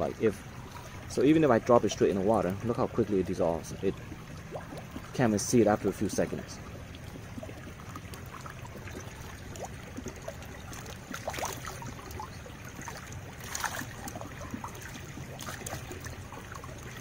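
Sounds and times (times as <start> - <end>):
light splashes: 0.0 - 17.0
pond water trickling and lapping: 0.0 - 17.0.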